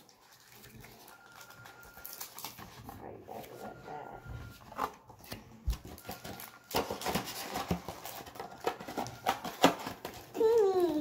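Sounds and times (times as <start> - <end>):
wrappers crinkling: 0.0 - 3.8, 5.2 - 11.0.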